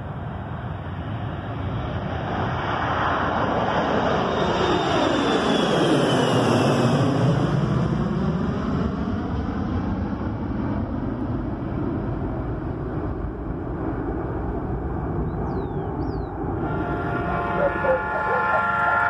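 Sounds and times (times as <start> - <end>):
jet airliner roar overhead: 0.0 - 19.0.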